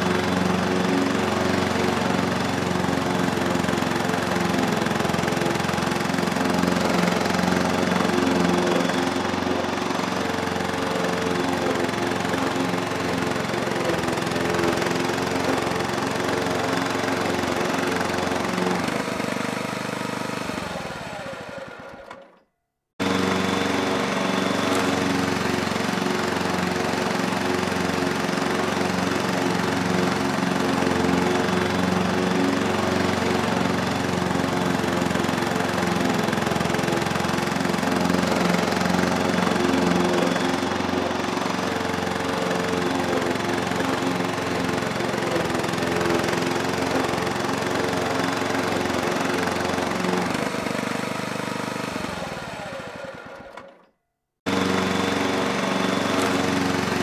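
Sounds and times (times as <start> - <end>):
lawn mower engine running: 0.0 - 22.4, 23.0 - 57.0.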